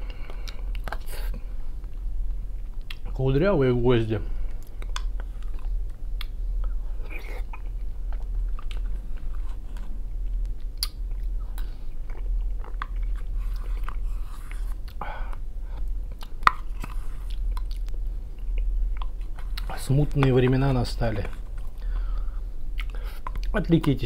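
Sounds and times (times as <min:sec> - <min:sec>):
low hum: 0:00.0 - 0:24.0
wet chewing: 0:00.1 - 0:03.1, 0:04.5 - 0:24.0.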